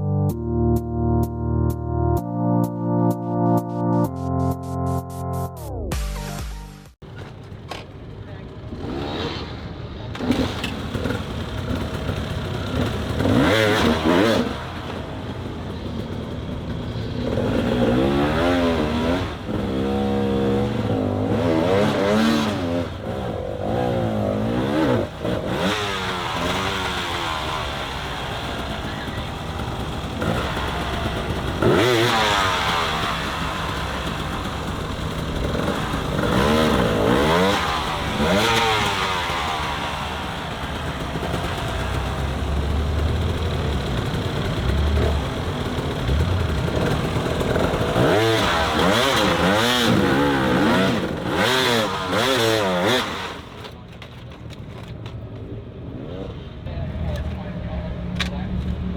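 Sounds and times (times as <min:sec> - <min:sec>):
motorcycle engines revving: 0:07.0 - 0:58.9.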